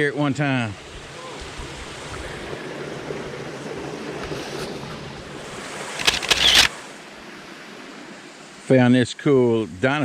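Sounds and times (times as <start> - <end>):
water rushing and gurgling: 0.0 - 10.0.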